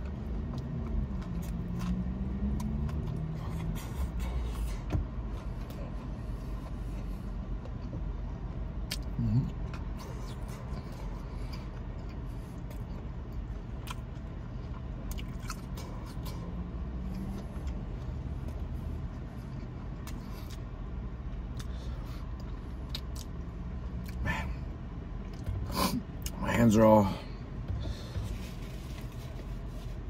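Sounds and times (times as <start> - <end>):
chewing and crunching: 0.0 - 24.6
low hum inside car: 0.0 - 30.0.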